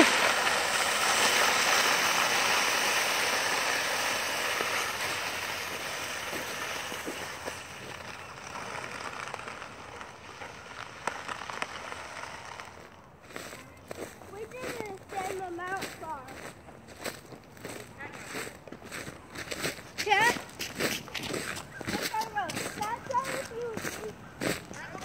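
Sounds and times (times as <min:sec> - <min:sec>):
plastic sled scraping over snow: 0:00.0 - 0:25.0.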